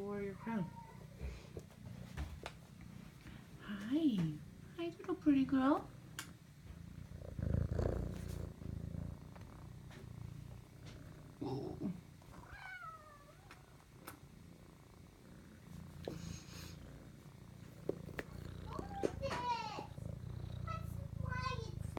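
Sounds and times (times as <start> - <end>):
kitten purring: 0.0 - 21.9.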